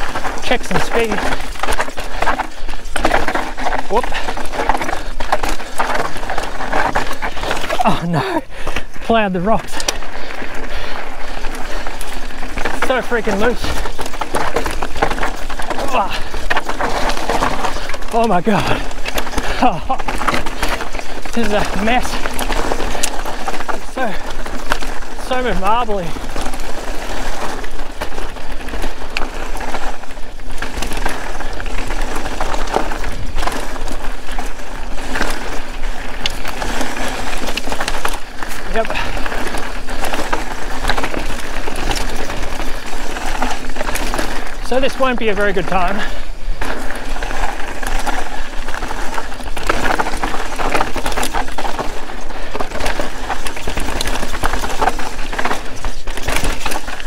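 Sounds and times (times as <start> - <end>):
bike rattling over rocks: 0.0 - 57.0
bike tyres crunching over stones: 0.0 - 57.0.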